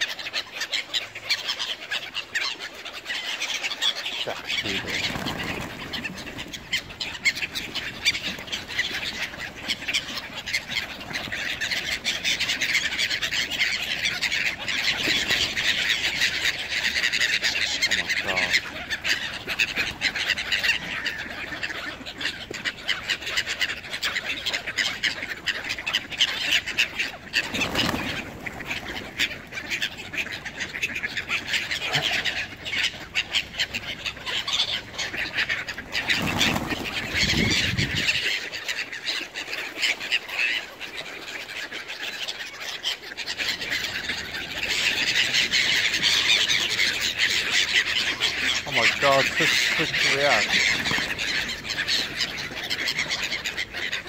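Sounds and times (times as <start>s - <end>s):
birds' wings fluttering: 0.0s - 54.0s
gulls squawking: 0.0s - 54.0s.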